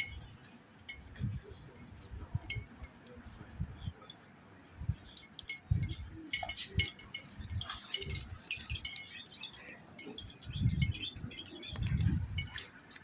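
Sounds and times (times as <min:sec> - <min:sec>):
light metallic tinkling: 0:00.0 - 0:13.0.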